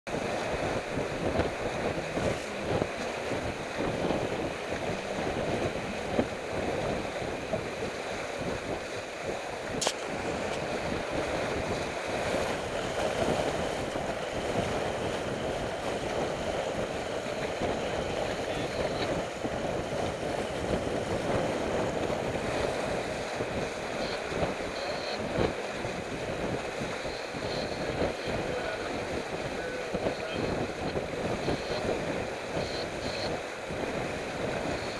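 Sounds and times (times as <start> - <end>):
water splashing along hull: 0.0 - 34.9
wind buffeting microphone: 0.1 - 34.9.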